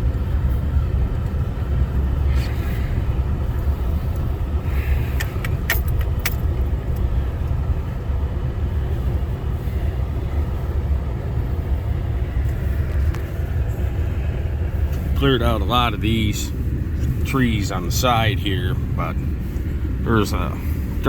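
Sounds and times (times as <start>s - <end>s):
vehicle driving on snow: 0.0s - 21.0s.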